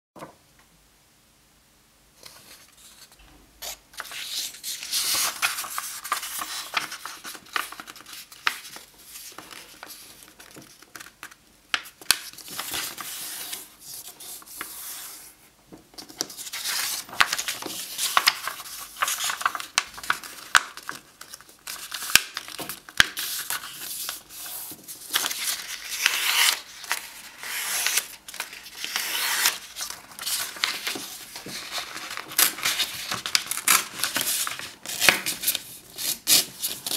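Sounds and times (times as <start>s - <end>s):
paper rustling and crackling: 2.2s - 36.9s.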